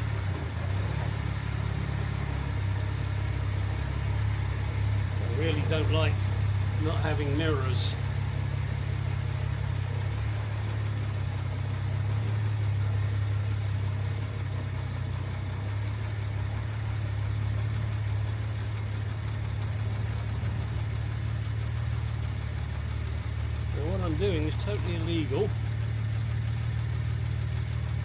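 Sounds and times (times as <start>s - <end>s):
car engine running at low revs: 0.0s - 28.0s.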